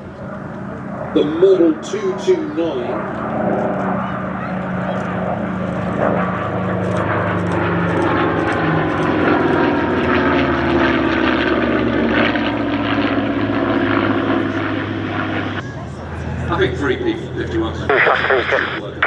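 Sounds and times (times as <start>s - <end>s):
propeller plane engines drone: 0.0s - 19.0s.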